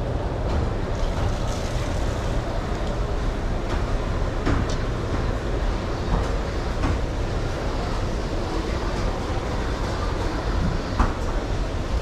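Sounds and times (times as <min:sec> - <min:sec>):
indoor market rumble: 0:00.0 - 0:12.0.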